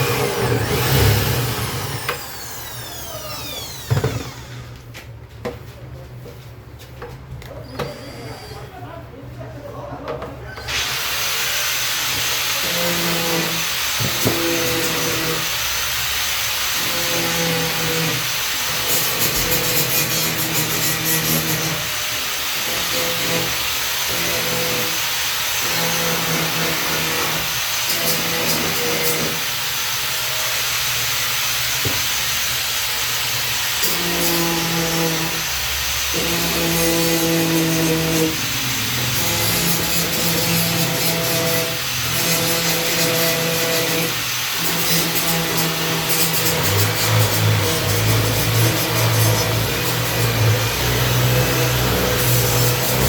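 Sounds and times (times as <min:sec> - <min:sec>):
power tool cutting wood: 0:00.0 - 0:04.8, 0:10.6 - 0:53.0.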